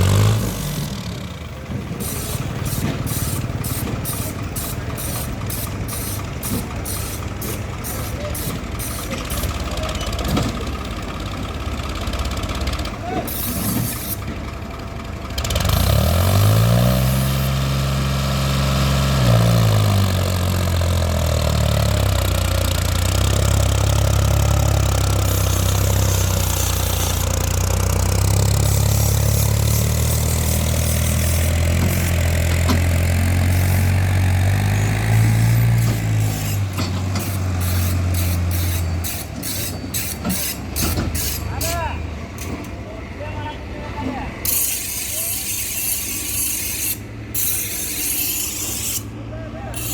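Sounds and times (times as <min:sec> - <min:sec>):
tractor diesel engine revving: 0:00.0 - 0:45.3.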